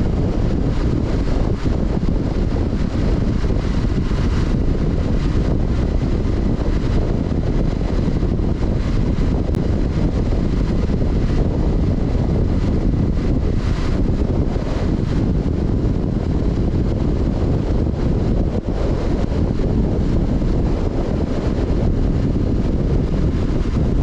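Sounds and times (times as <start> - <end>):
motorcycle engine running: 0.0 - 24.0
wind noise on microphone: 0.0 - 24.0.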